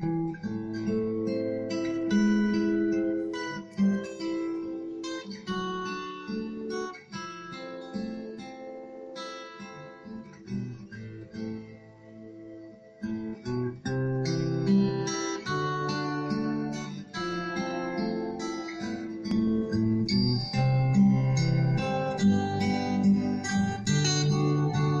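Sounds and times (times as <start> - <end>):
fingerpicked acoustic guitar: 0.0 - 25.0.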